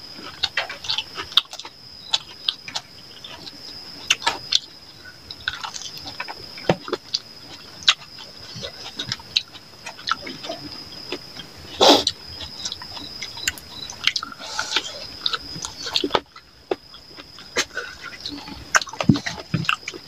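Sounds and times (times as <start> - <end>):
people chewing and lip smacking: 0.0 - 20.0.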